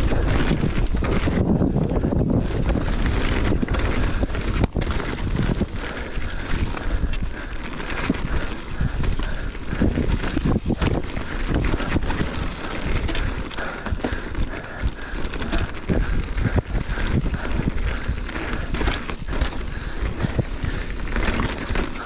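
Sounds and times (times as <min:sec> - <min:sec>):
bike rattling over rocks: 0:00.0 - 0:22.0
wind buffeting microphone: 0:00.0 - 0:22.0.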